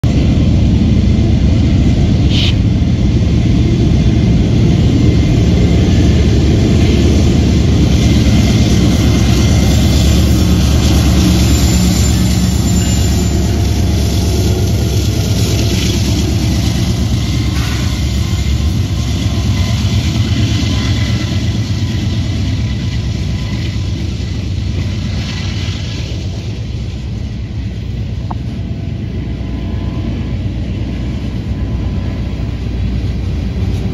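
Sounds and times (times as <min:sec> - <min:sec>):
diesel locomotives running: 0:00.0 - 0:33.9
freight cars rumbling on rails: 0:00.0 - 0:33.9.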